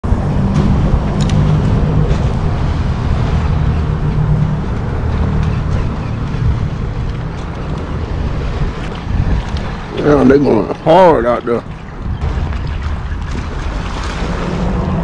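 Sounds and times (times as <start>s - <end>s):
boat engine humming: 0.0s - 15.0s
wind buffeting microphone: 0.0s - 15.0s
faint water splashes: 0.4s - 15.0s.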